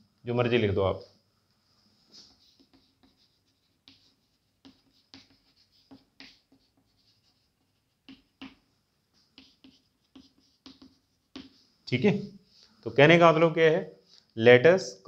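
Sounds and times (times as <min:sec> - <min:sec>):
chalk scratching on chalkboard: 0:02.0 - 0:14.4.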